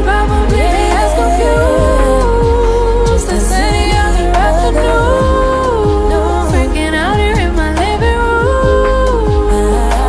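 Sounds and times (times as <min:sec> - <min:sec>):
pop song singing: 0:00.0 - 0:10.0
booming kick drum: 0:00.3 - 0:09.6.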